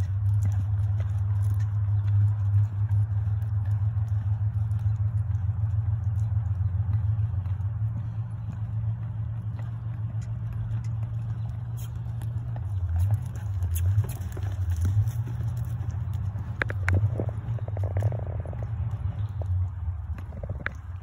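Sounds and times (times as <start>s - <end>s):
horse hoofbeats on sand: 0.0s - 21.0s
steady low hum: 0.0s - 21.0s.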